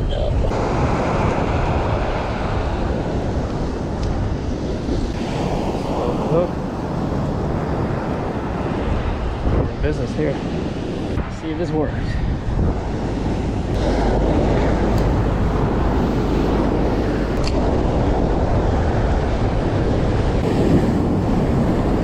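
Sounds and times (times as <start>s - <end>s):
wind buffeting microphone: 0.0s - 22.0s
surf washing on beach: 0.4s - 22.0s.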